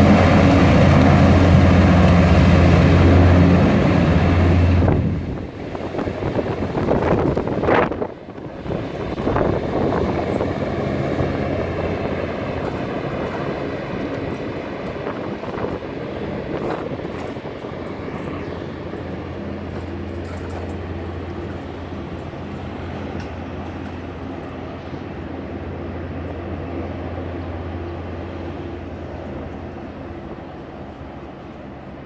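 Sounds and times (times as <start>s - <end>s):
hovercraft engines droning: 0.0s - 32.0s.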